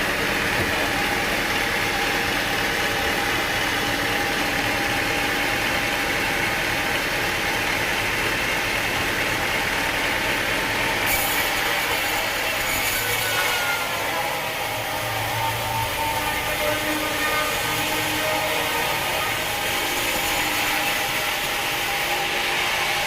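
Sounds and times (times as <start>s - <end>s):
sawmill machinery drone: 0.0s - 23.0s.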